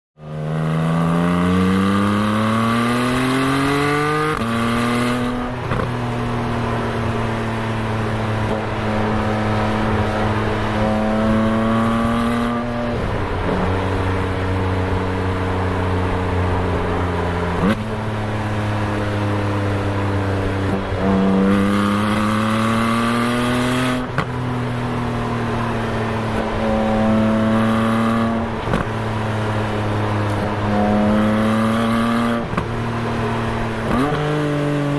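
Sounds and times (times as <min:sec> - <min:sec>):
sports car exhaust accelerating: 0:00.2 - 0:34.9.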